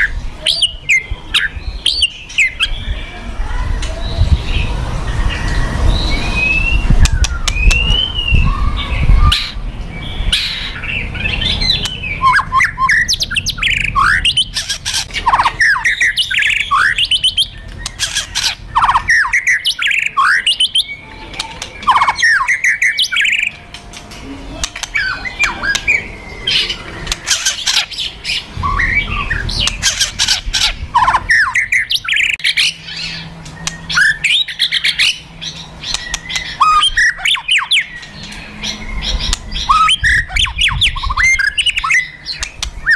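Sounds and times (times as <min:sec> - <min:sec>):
bird whistling song: 0:00.0 - 0:03.0, 0:03.8 - 0:23.6, 0:24.7 - 0:42.9
sharp bird notes: 0:00.0 - 0:42.9.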